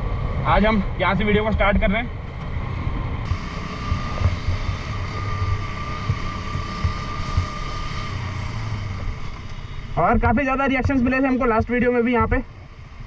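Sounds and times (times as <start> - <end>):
motorcycle engine cruising: 0.0 - 13.0
road and wind noise: 0.0 - 13.0
thin steady whine: 0.0 - 13.0.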